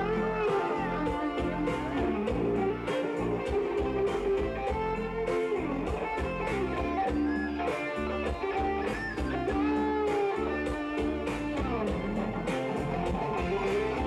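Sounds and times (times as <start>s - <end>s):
bass: 0.0s - 14.0s
electric guitar sustained notes: 0.0s - 14.0s
steady drum beat: 0.0s - 14.0s.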